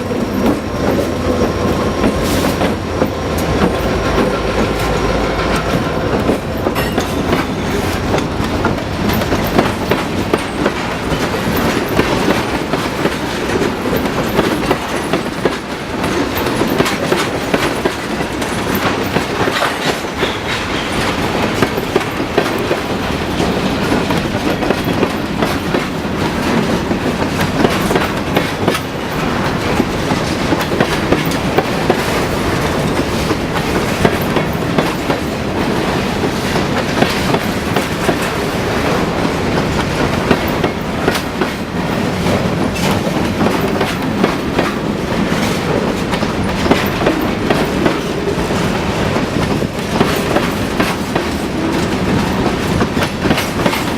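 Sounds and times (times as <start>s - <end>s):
freight train wheels clicking: 0.0s - 53.9s.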